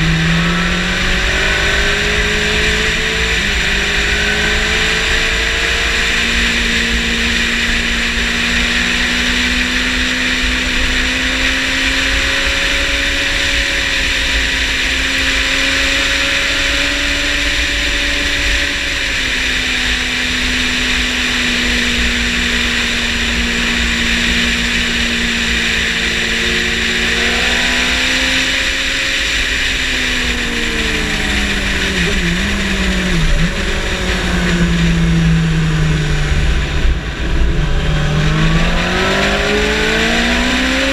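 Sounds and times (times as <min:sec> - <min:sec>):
motorcycle engine at speed: 0:00.0 - 0:40.9.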